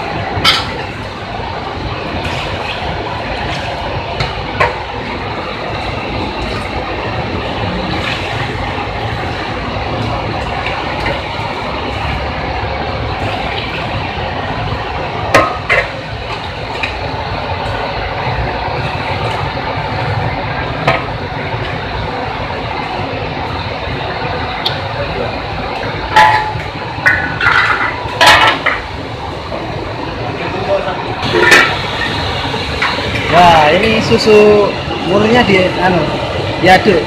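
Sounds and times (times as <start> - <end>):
steady rushing background noise: 0.0 - 37.0.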